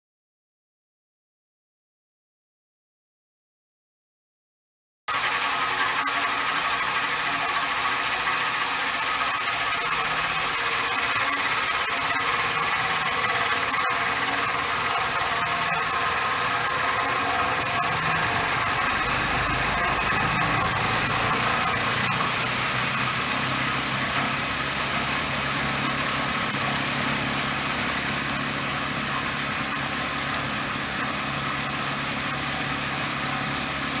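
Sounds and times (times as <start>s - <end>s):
thin high whine: 5.2s - 34.0s.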